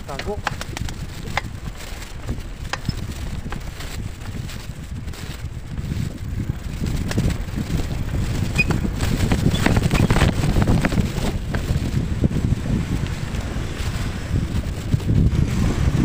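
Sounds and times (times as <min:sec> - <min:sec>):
bike rattling on rough road: 0:00.0 - 0:16.0
wind buffeting microphone: 0:00.0 - 0:16.0.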